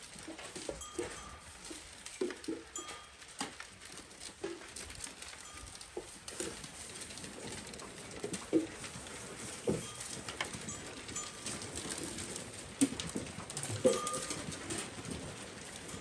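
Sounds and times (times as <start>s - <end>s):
goats munching: 0.0s - 16.0s
hooves clicking and shuffling: 0.0s - 16.0s.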